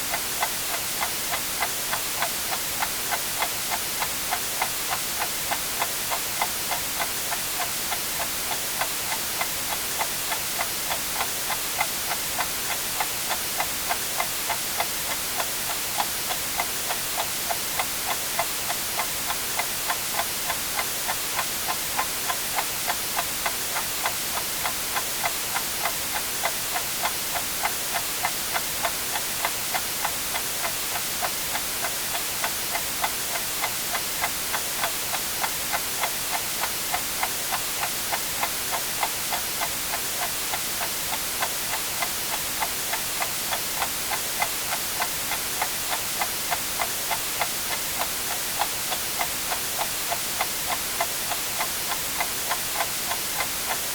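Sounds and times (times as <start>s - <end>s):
white noise hiss: 0.0s - 53.9s
clock ticking: 0.1s - 53.9s.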